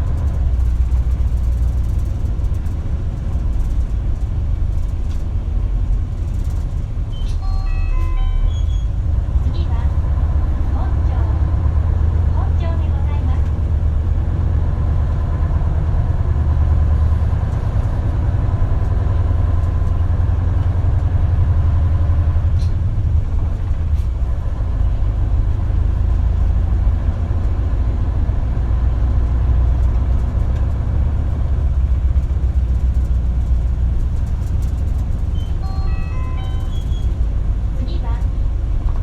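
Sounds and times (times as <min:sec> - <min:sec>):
bus engine rumble: 0:00.0 - 0:39.0.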